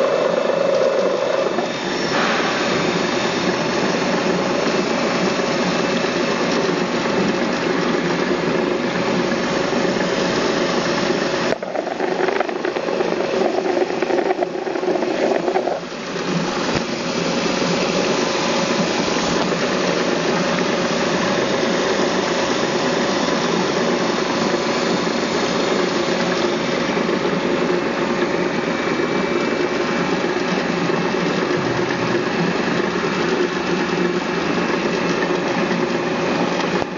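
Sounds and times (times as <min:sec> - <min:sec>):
grinding machine motor running: 0:00.0 - 0:36.9.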